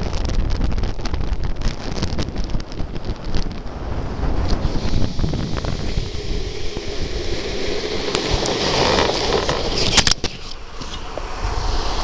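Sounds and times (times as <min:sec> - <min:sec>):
wheels rumbling on asphalt: 0:00.0 - 0:12.0
wind rushing on microphone: 0:00.0 - 0:12.0.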